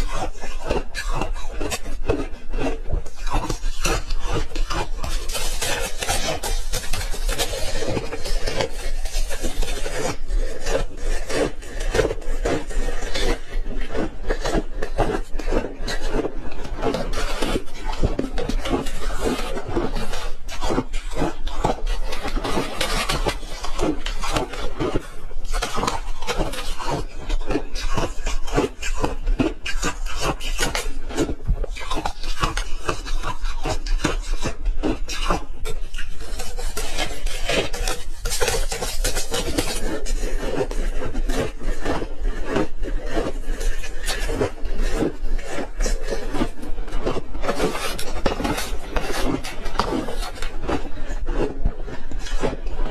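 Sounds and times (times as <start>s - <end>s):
ice crunched and chewed: 0.0s - 52.9s.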